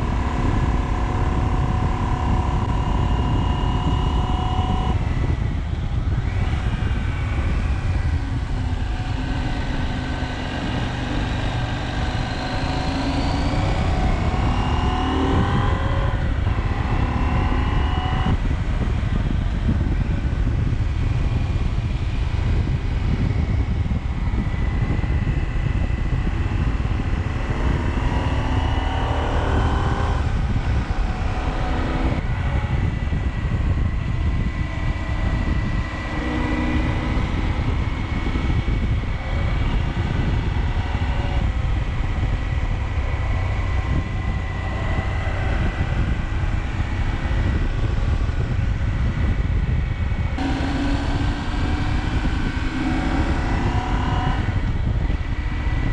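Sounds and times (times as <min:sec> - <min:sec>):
motorcycle engine accelerating: 0:00.0 - 0:55.9
wind noise on microphone: 0:00.0 - 0:55.9.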